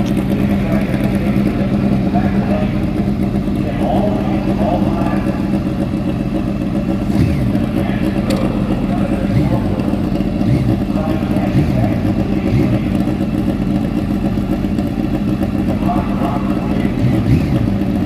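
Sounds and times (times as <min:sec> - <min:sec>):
motorcycle throttle blips: 0:00.0 - 0:18.0
motorcycles idling: 0:00.0 - 0:18.0.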